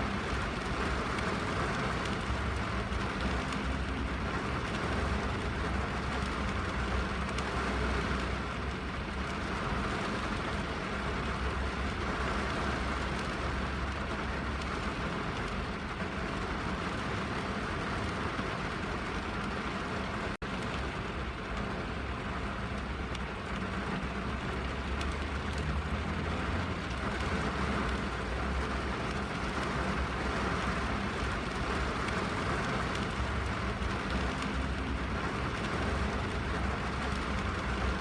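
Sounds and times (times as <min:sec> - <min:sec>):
rain on car roof: 0:00.0 - 0:38.0.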